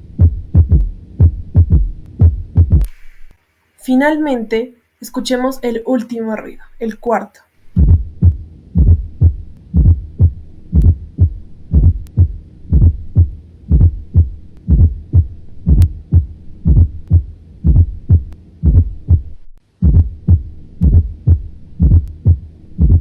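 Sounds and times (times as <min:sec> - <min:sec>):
heartbeat through stethoscope: 0:00.0 - 0:03.3, 0:07.7 - 0:23.0.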